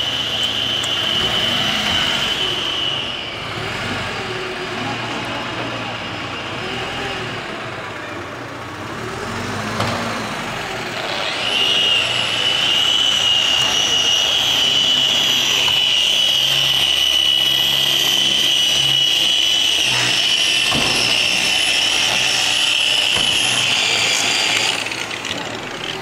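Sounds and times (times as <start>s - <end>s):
electric polisher whining: 0.0s - 7.6s, 10.4s - 26.0s.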